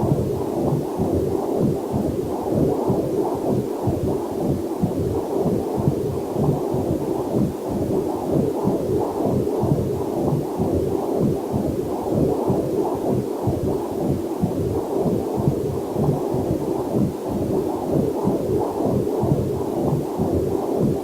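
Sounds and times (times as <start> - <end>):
doppler heartbeat whooshing: 0.0 - 21.0.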